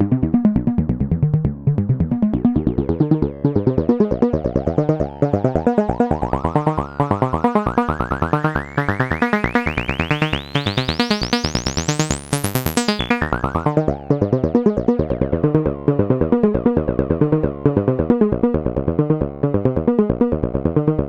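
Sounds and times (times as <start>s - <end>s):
analog synthesizer sequence: 0.0s - 21.0s.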